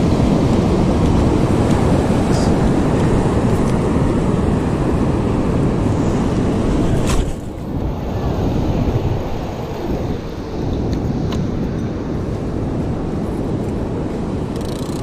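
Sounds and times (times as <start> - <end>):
heavy surf breaking: 0.0 - 14.5
wind rumbling on microphone: 0.0 - 15.0.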